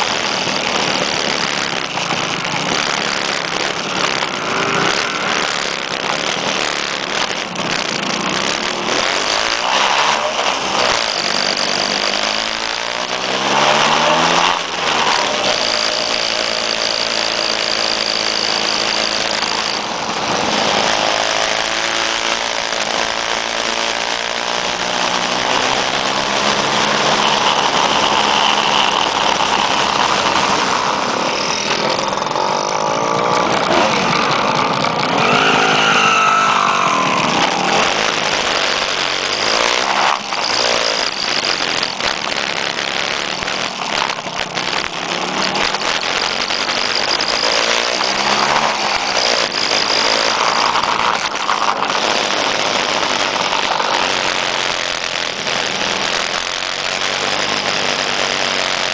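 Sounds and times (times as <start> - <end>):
scooter engines revving: 0.0 - 58.9.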